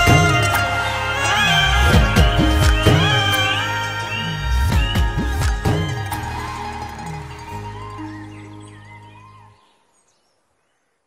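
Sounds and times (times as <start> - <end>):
music with held low note: 0.0 - 9.6.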